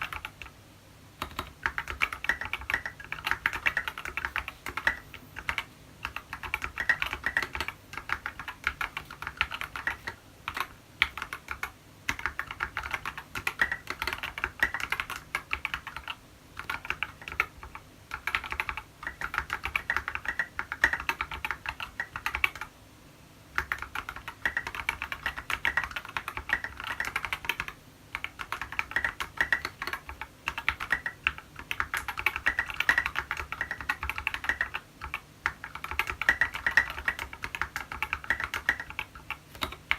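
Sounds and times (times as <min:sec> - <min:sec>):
mechanical keyboard typing: 0:00.0 - 0:00.6, 0:01.2 - 0:22.7, 0:23.5 - 0:39.9.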